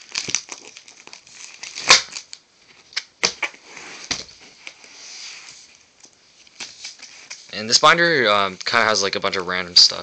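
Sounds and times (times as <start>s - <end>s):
plastic pages rustling: 0.0s - 9.8s.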